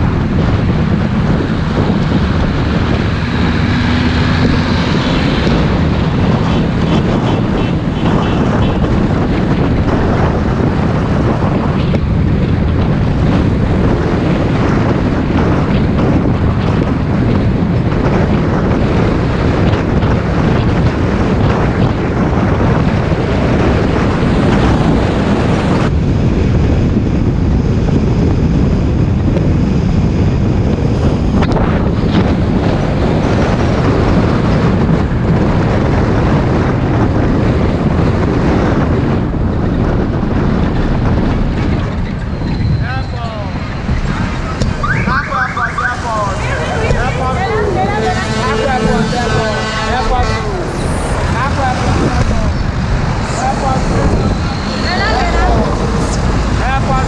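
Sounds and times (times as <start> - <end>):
bus engine and road noise: 0.0 - 57.0
wind buffeting microphone: 0.0 - 57.0.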